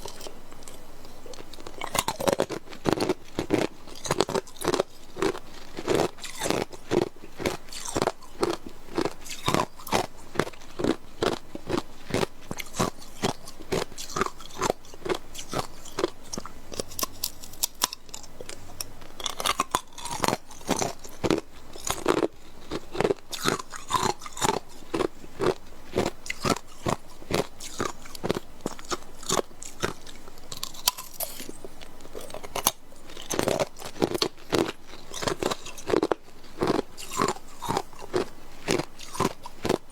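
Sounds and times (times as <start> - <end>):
ice cubes crunched by chewing: 0.0 - 39.8.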